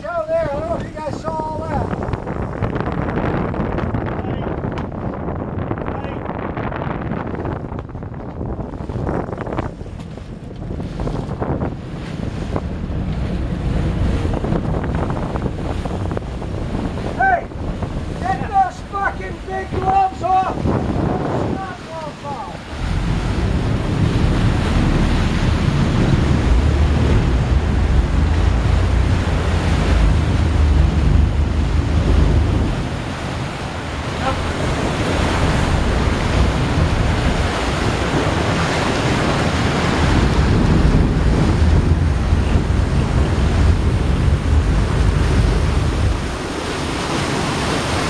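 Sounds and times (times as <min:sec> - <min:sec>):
boat wake churning water: 0:00.0 - 0:48.0
wind buffeting microphone: 0:00.0 - 0:48.0.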